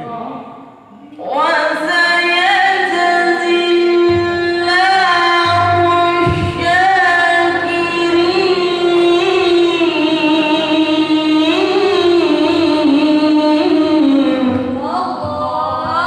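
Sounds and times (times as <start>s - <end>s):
high voice singing: 0.0s - 16.0s.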